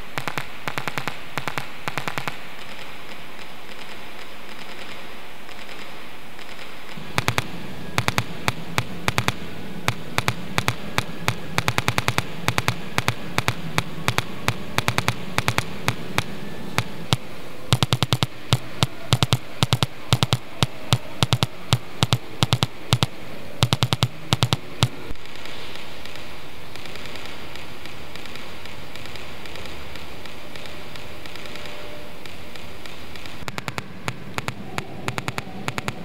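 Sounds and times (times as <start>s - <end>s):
low hum: 0.0s - 36.0s
steady hiss: 0.0s - 36.0s.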